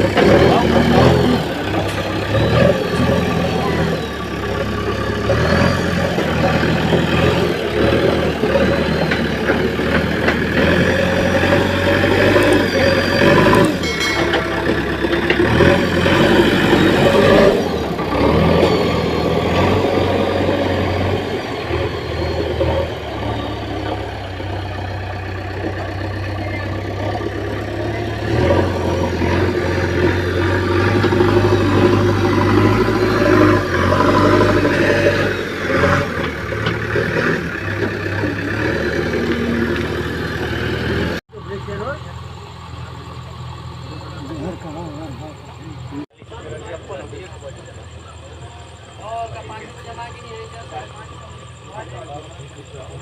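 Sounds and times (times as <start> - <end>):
diesel engine of earthmoving machine: 0.0 - 53.0.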